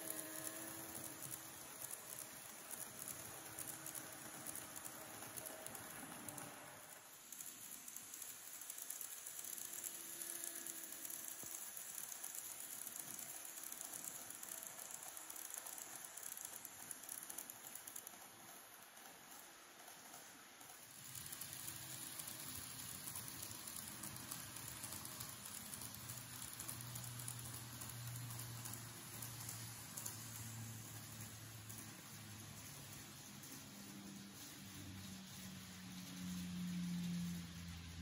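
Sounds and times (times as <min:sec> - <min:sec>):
faint model train motor whine: 0:00.0 - 0:38.0
wheels clicking on rails: 0:00.0 - 0:38.0.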